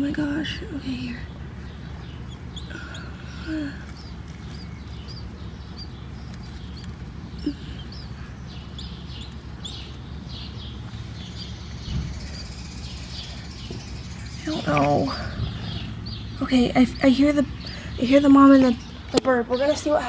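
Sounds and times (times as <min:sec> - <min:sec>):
small bird chirping: 0:00.0 - 0:20.0
steady low rumble: 0:00.0 - 0:20.0.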